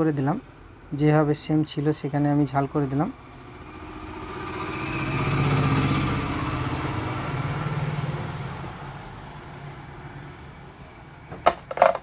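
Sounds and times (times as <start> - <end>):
vehicle engine passing by: 1.6 - 11.4.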